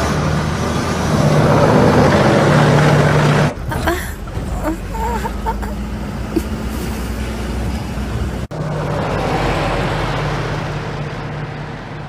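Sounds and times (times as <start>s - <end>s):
vehicle engines droning: 0.0s - 12.0s.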